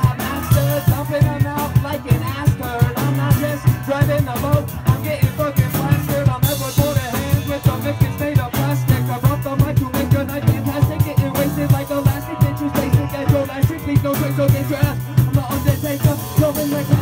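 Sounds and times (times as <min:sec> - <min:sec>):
drum kit beat: 0:00.0 - 0:17.0
live band playing: 0:00.0 - 0:17.0.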